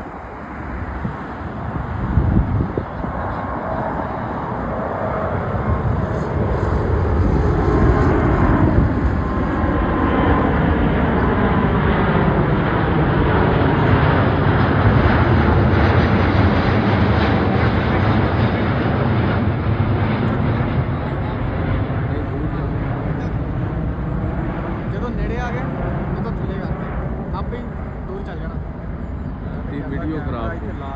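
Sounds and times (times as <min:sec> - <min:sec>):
jet airliner flying over: 0:00.0 - 0:30.9.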